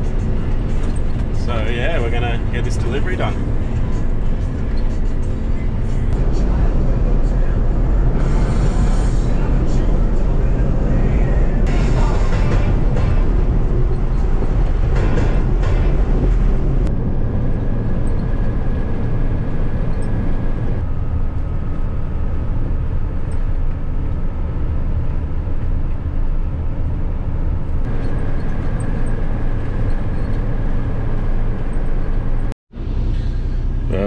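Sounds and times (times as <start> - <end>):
faint even whine: 0.0 - 34.0
truck diesel engine drone: 0.0 - 34.0.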